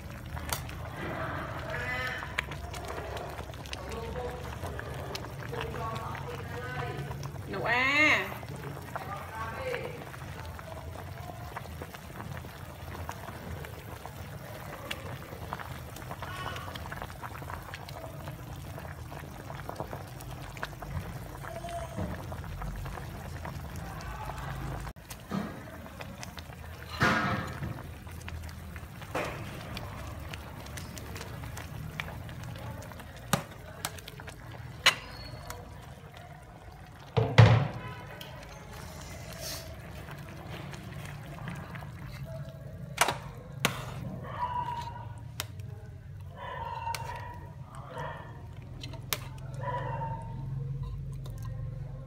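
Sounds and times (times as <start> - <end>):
soup boiling and bubbling: 0.0 - 52.0.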